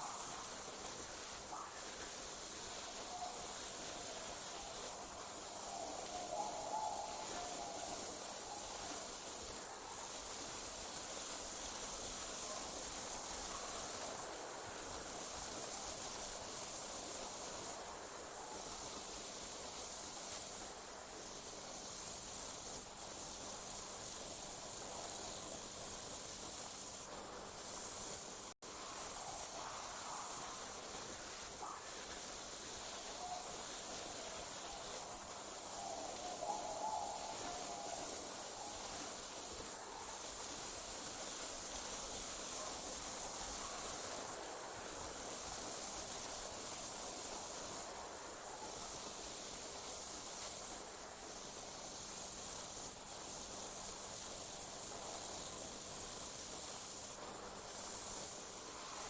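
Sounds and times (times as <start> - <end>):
crickets trilling: 0.0 - 17.8, 18.5 - 59.0.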